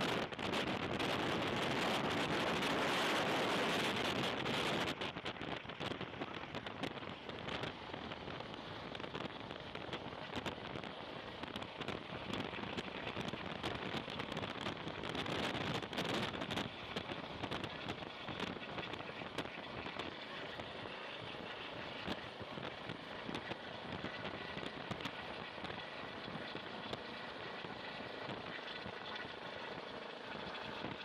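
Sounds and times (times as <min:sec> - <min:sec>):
crackles and clicks: 0:00.0 - 0:31.0
wind buffeting microphone: 0:00.0 - 0:31.0.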